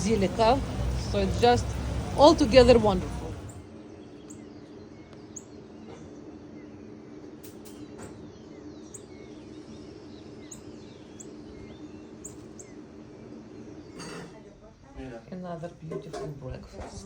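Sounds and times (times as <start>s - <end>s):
low hum: 0.0s - 14.0s
small birds chirping: 0.0s - 14.2s.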